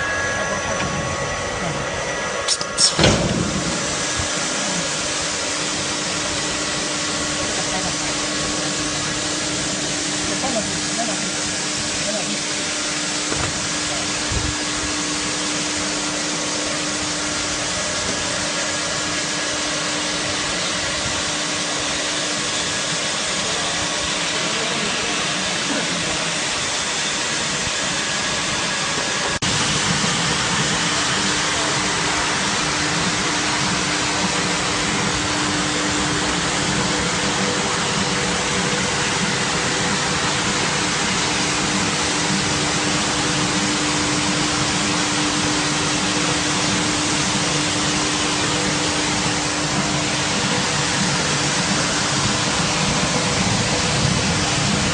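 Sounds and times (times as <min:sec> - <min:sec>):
carpet washing machine whirring: 0:00.0 - 0:54.9.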